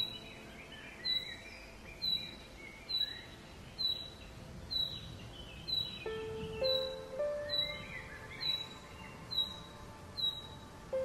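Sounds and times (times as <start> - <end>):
bird chirping: 0.0 - 11.0
bird warbling and gliding calls: 0.0 - 11.0.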